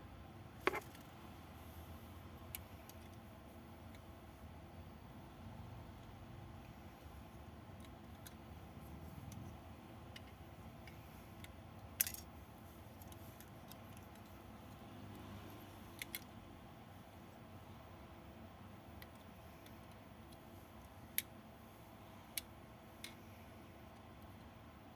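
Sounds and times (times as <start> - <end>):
low background noise: 0.0 - 24.9.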